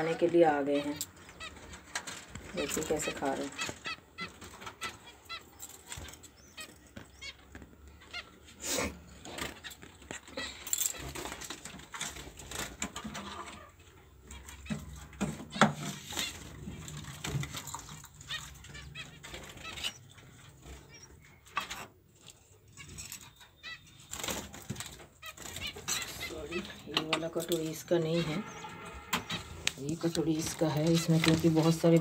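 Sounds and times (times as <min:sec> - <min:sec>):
birds chirping and honking: 0:00.0 - 0:32.0.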